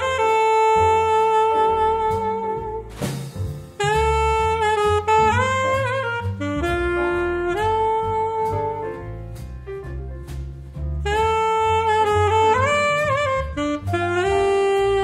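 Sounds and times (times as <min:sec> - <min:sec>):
alto saxophone melody: 0:00.0 - 0:10.0, 0:11.0 - 0:15.0
low bass line: 0:00.0 - 0:15.0.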